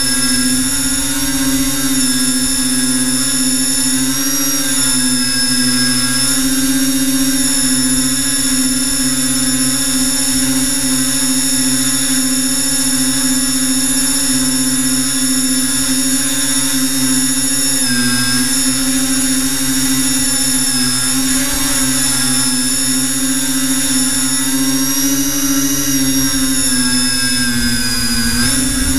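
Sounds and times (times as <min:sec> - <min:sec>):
drone motors whining: 0:00.0 - 0:28.9.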